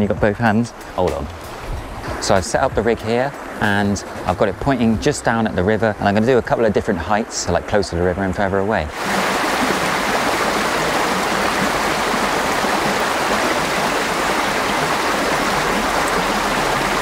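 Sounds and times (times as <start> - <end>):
river water rushing: 0.7 - 8.0, 8.9 - 17.0.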